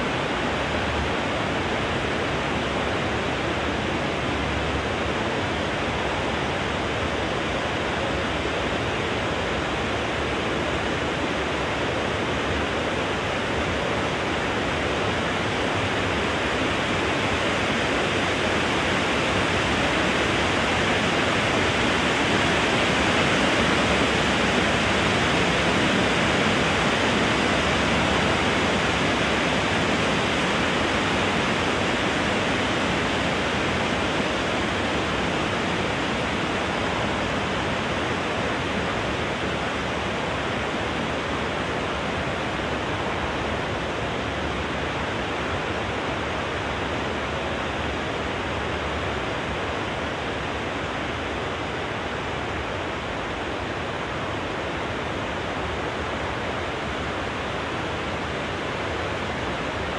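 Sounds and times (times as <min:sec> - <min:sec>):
wind blowing through trees: 0:00.0 - 0:59.9.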